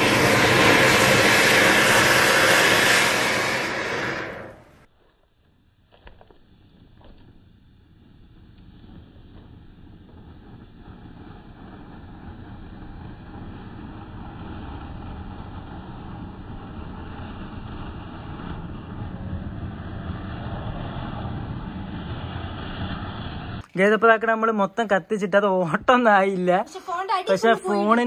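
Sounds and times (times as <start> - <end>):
firework fountain hissing: 0.0 - 4.9, 6.5 - 24.3.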